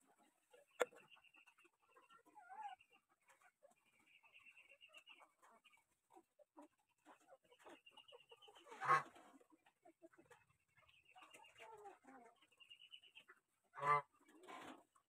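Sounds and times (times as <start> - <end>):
chickens chirping: 0.0 - 15.0
loud chicken clucks: 0.0 - 15.0.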